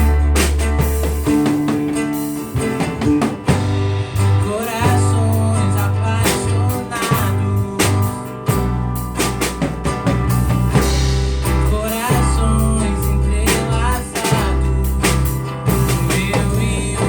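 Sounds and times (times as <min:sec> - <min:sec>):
drum kit hits: 0:00.0 - 0:17.0
guitar: 0:00.0 - 0:17.0
held bass notes: 0:00.0 - 0:17.0.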